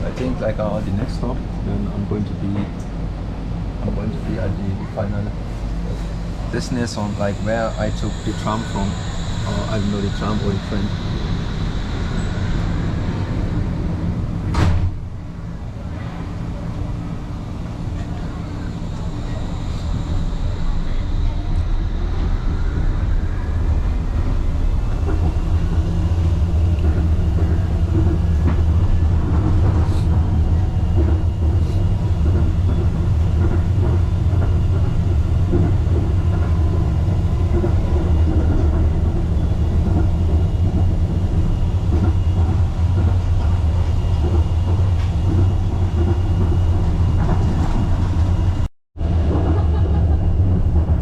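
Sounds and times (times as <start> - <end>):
faint whine tones: 0.0 - 51.0
suspension railway car rumble: 0.0 - 51.0.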